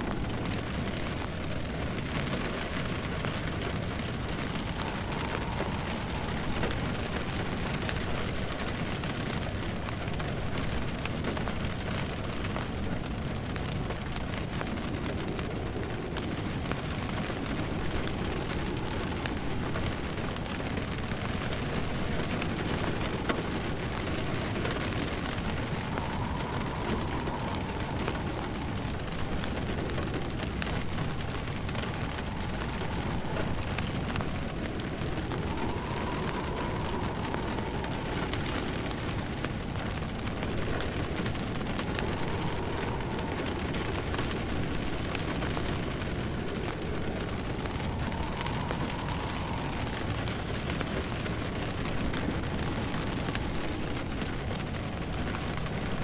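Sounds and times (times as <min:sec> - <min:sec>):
soft wind whistle: 0:00.0 - 0:56.0
steady rain: 0:00.0 - 0:56.0
wood fire crackling: 0:00.0 - 0:56.0.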